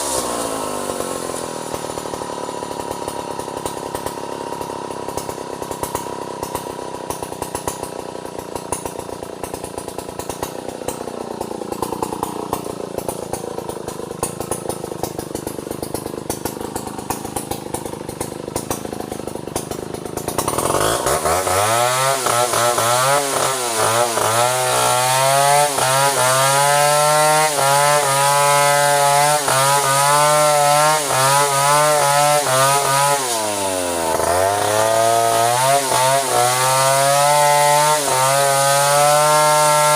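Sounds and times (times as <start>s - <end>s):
chainsaw cutting into wood: 0.0s - 39.9s
chainsaw idling and revving: 0.0s - 39.9s.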